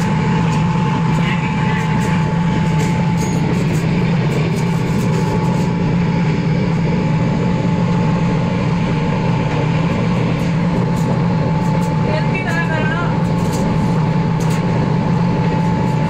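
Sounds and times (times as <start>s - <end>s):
workshop machinery humming and whining: 0.0s - 16.0s.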